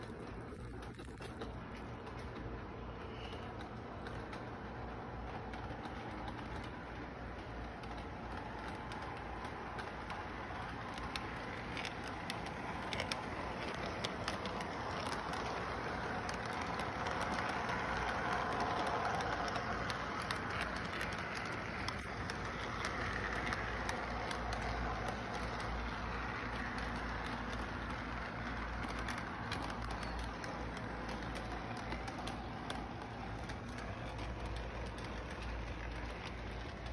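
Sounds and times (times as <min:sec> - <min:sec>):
low background rumble: 0:00.0 - 0:36.9
model train running on track: 0:00.0 - 0:36.9.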